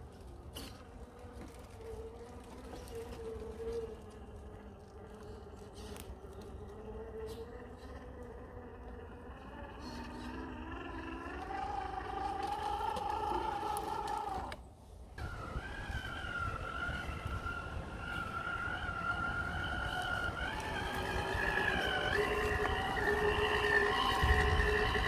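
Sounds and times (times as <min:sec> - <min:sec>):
electric motor whining: 0:00.7 - 0:14.6, 0:15.2 - 0:25.0.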